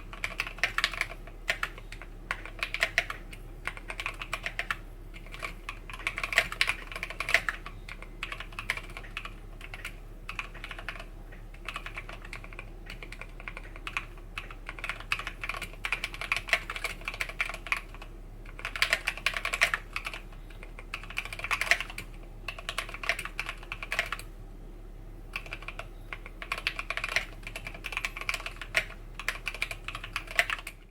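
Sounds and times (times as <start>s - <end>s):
mechanical keyboard typing: 0.0s - 24.3s, 25.3s - 30.9s
steady low hum: 0.0s - 30.9s.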